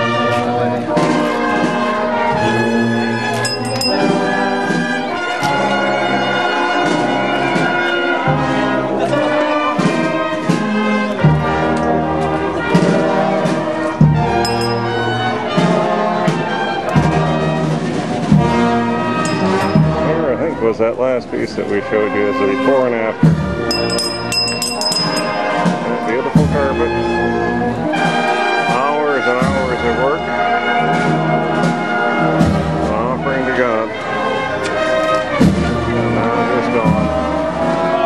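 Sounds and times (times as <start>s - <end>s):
brass band chords: 0.0s - 38.0s.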